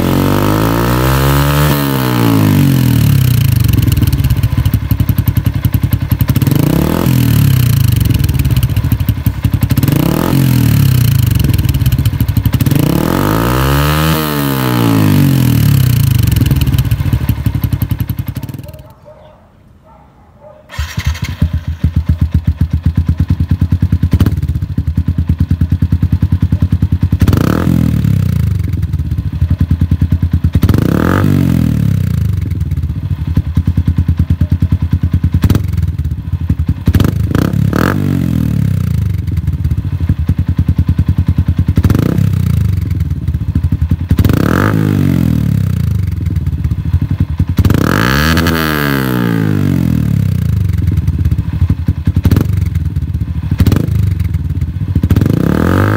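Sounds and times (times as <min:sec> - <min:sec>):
motorcycle engine revving: 0:00.0 - 0:19.0, 0:20.7 - 0:55.9.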